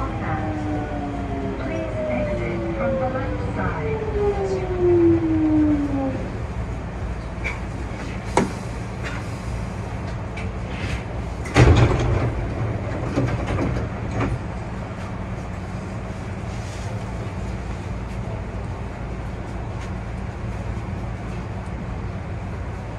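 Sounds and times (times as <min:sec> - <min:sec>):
electric train rumble: 0:00.0 - 0:22.9.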